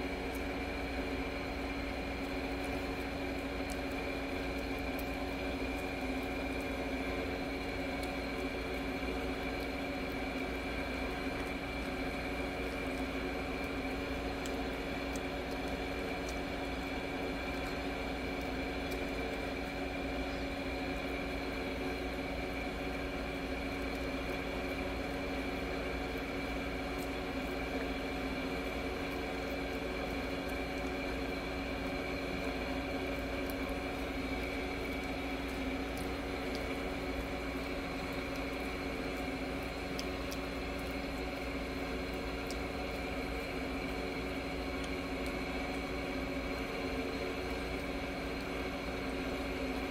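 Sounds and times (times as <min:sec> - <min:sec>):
mechanical hum: 0:00.0 - 0:49.9.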